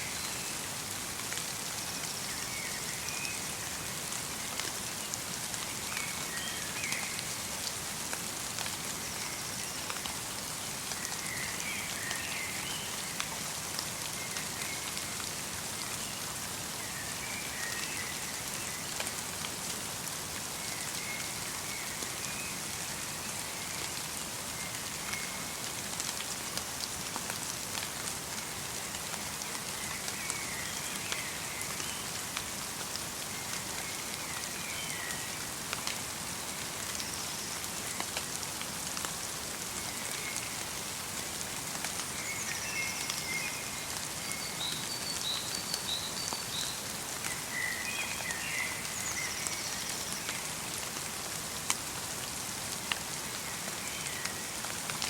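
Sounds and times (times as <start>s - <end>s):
light rain and snow falling: 0.0s - 55.0s.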